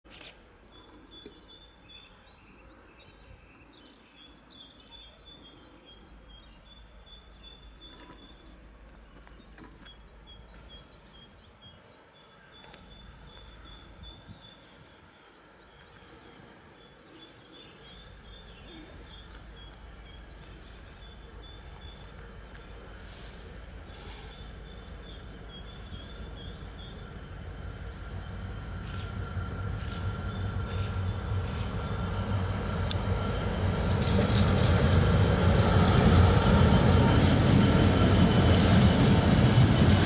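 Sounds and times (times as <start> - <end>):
songbird singing: 0.1 - 39.7
faint outdoor background noise: 0.1 - 40.0.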